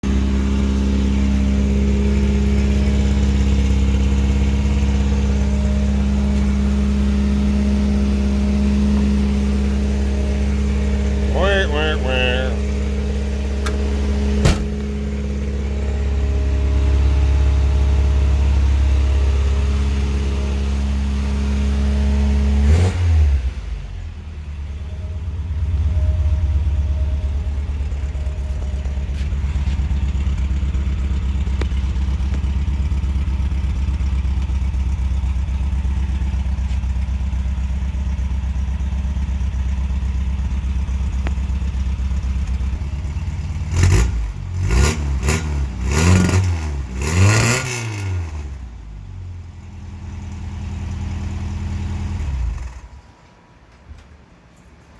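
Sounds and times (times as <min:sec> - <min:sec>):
car engine running: 0:00.0 - 0:22.5, 0:23.4 - 0:47.1.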